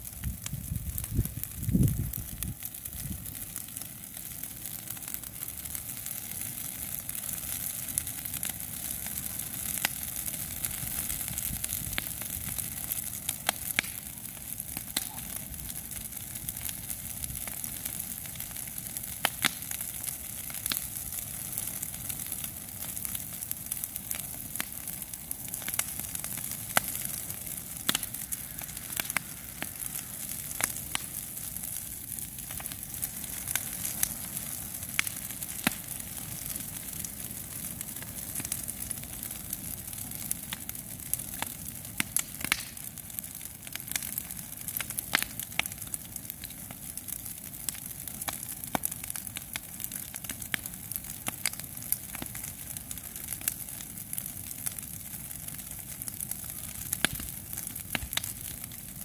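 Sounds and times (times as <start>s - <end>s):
fire hissing: 0.0s - 59.0s
palm fronds burning and crackling: 0.0s - 59.0s
sharp popping of fire: 0.0s - 59.0s.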